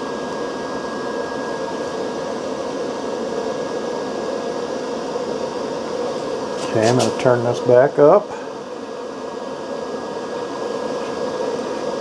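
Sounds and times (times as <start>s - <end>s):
fan-like whir and hiss: 0.0s - 12.0s.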